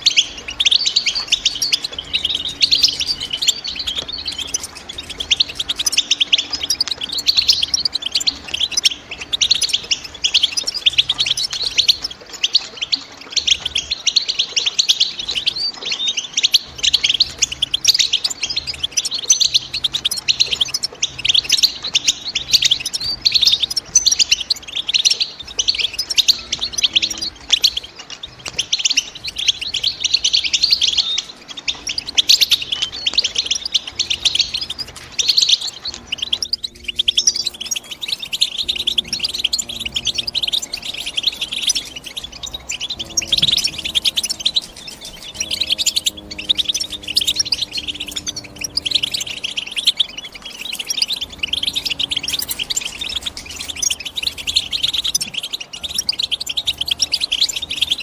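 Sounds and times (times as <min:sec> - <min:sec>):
finch twittering song: 0:00.0 - 0:58.0.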